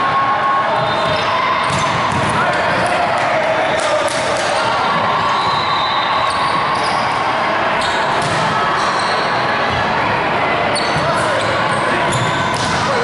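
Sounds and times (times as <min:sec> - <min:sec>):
echoing gymnasium din: 0:00.0 - 0:13.0.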